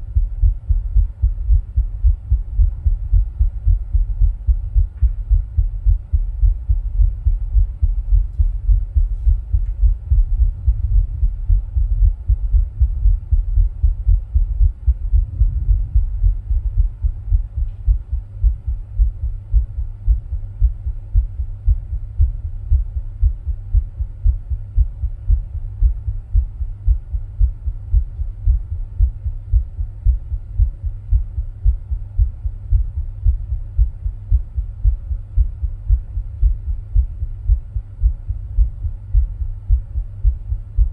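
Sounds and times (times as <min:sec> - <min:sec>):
heartbeat: 0:00.0 - 0:40.9.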